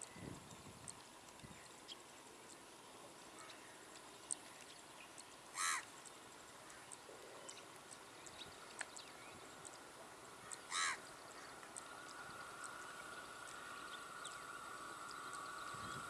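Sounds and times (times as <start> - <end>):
bird calls: 1.3 - 16.0.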